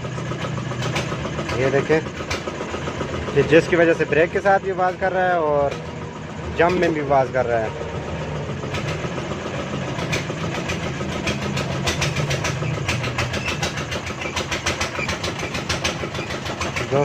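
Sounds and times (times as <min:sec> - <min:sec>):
engine-like mechanical hum: 0:00.0 - 0:17.0
sharp metallic clicks and taps: 0:00.2 - 0:07.1, 0:08.2 - 0:17.0.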